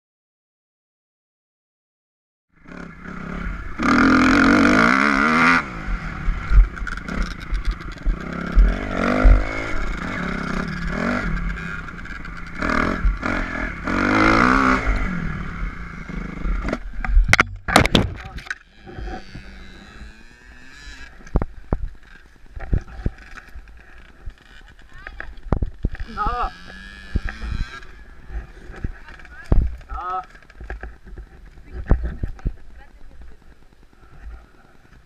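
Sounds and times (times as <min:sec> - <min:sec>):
dirt bike engine revving: 0:02.6 - 0:17.3, 0:18.5 - 0:32.8.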